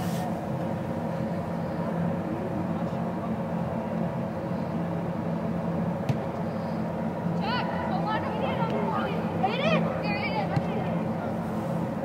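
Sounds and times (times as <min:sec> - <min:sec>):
air-handling fans droning: 0:00.0 - 0:12.0.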